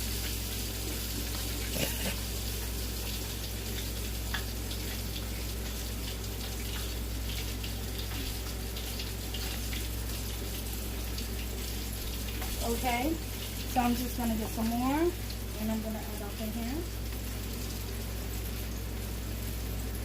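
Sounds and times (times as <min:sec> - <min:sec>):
chicken frying in hot oil: 0:00.0 - 0:20.0.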